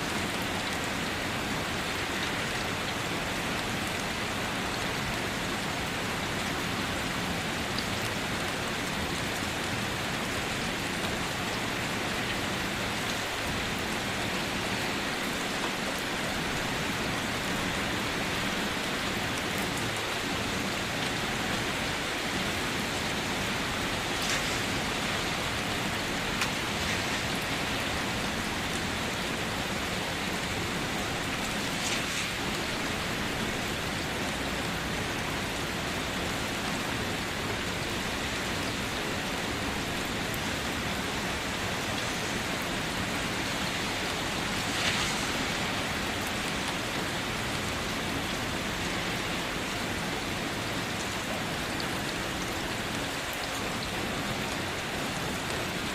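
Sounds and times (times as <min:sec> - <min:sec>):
rain pattering: 0:00.0 - 0:55.9.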